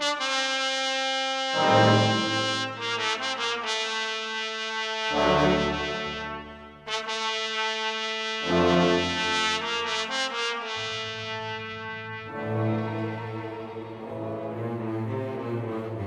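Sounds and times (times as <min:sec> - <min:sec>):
sustained brass chords: 0:00.0 - 0:16.0.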